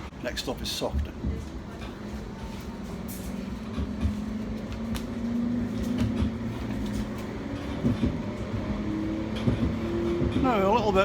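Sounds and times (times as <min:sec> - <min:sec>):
tram motor hum: 0:00.0 - 0:11.0.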